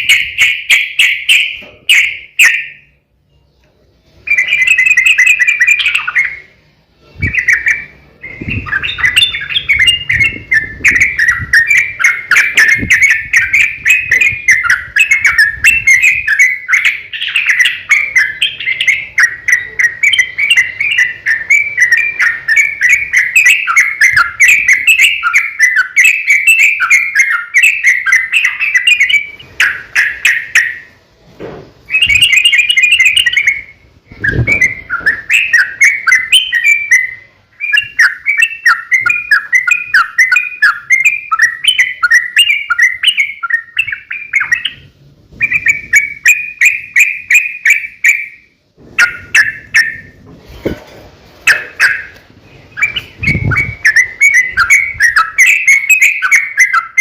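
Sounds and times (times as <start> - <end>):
bird chattering song: 0.0 - 3.0, 4.1 - 6.6, 7.2 - 31.0, 31.8 - 50.2, 51.4 - 57.0.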